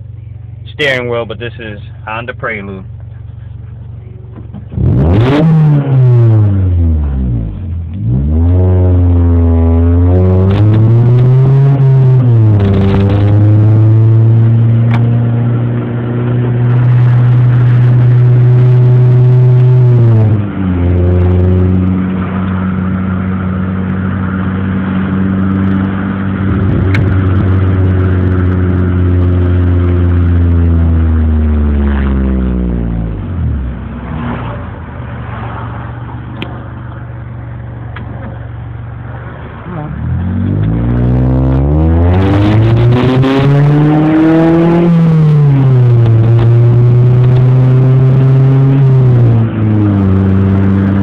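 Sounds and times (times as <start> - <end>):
car engine droning through exhaust: 0.0 - 51.0.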